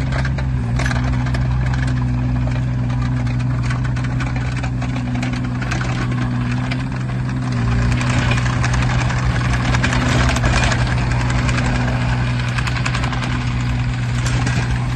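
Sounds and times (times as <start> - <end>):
diesel engine running: 0.0 - 14.9
track and undercarriage clatter: 0.0 - 14.9.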